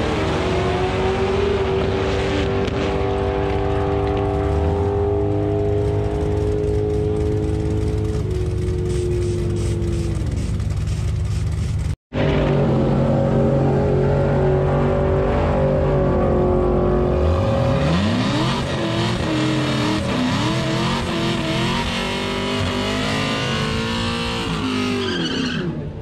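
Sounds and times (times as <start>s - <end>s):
car engine revving: 0.0s - 25.2s.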